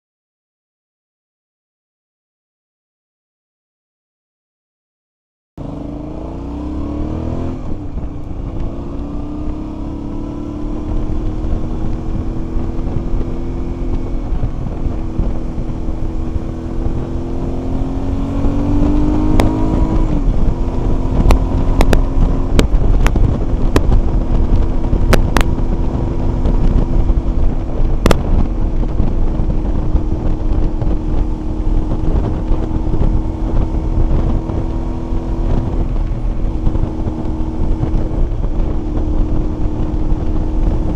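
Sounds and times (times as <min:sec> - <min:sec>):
motorcycle engine accelerating: 0:05.6 - 0:40.9
wind buffeting microphone: 0:05.6 - 0:40.9.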